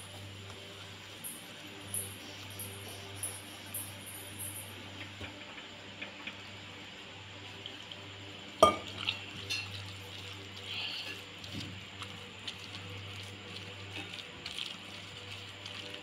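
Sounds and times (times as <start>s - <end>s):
batter mixed by hand: 0.0s - 5.4s, 7.2s - 16.0s.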